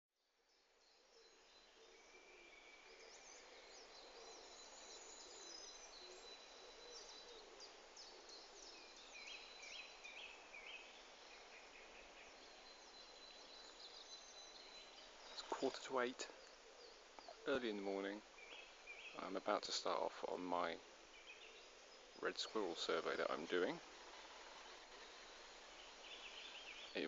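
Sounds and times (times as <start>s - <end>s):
birds singing and calling: 0.8s - 27.0s.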